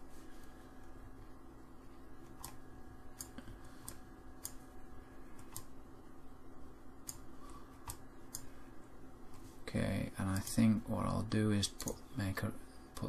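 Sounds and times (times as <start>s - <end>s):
low hum of computer: 0.0s - 13.0s.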